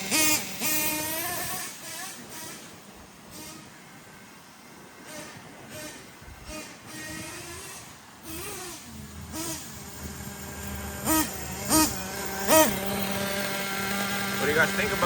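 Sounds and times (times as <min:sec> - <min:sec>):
small nitro engine idling and revving: 0:00.0 - 0:15.0.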